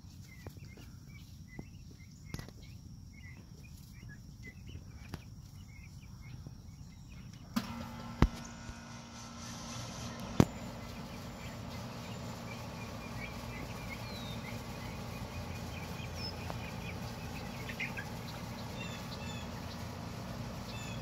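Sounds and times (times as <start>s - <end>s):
low hum and hiss: 0.0s - 21.0s
turkey poults peeping: 0.0s - 21.0s.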